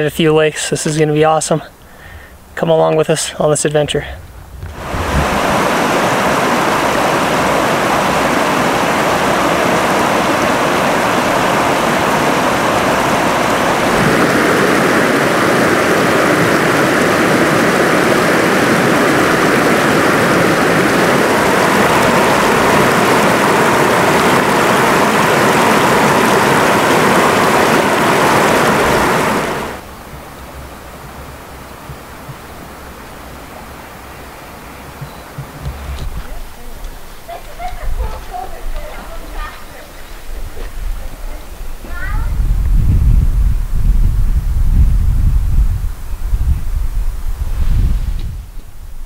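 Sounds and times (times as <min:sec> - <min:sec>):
rushing water: 0:00.0 - 0:42.8.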